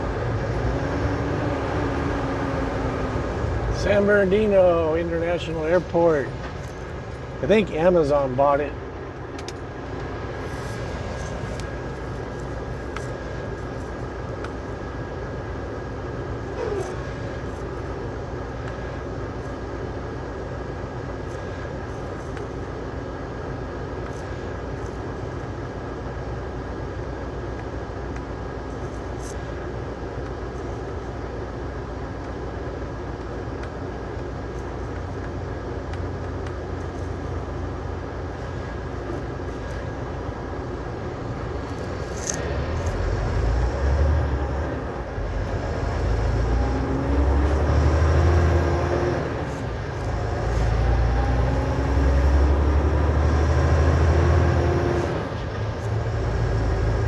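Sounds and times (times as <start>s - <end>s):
engine drone: 0.0s - 57.0s
road noise inside a cab: 0.0s - 57.0s.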